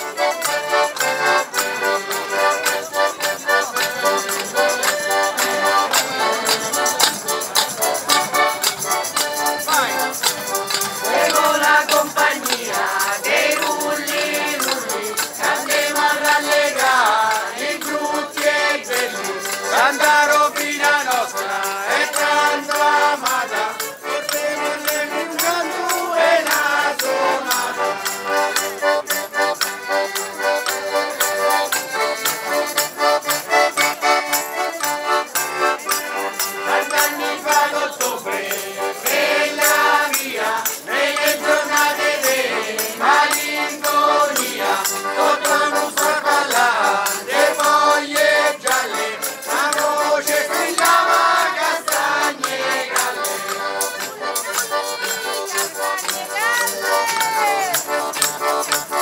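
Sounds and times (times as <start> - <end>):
button accordions: 0.0 - 59.0
group singing folk song: 0.0 - 59.0
shaken rattling percussion: 0.0 - 59.0.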